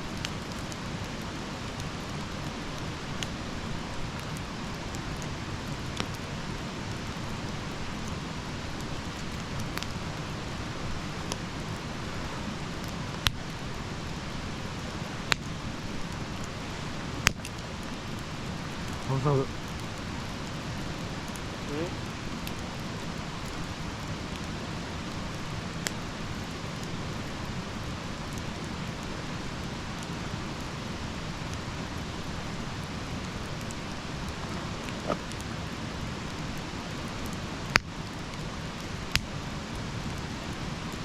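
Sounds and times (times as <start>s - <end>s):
wood fire burning: 0.0s - 41.0s.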